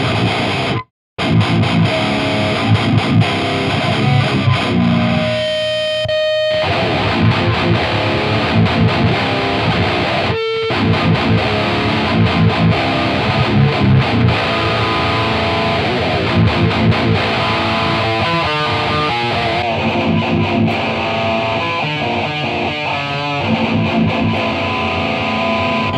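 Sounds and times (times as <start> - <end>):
distorted electric guitar riff: 0.0 - 25.9.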